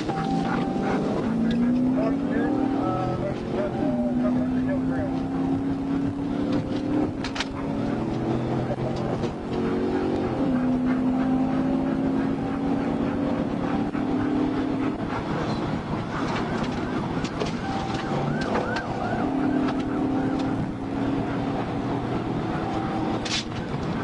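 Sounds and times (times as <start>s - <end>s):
car engine and road noise: 0.0s - 24.0s
police siren yelp: 0.0s - 24.0s.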